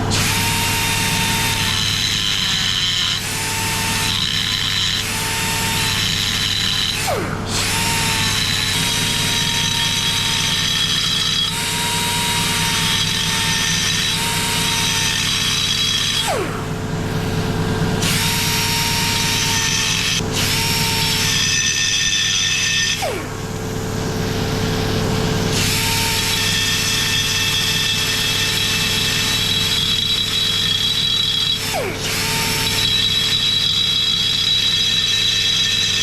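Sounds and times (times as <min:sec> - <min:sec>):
die grinder whining: 0:00.0 - 0:36.0.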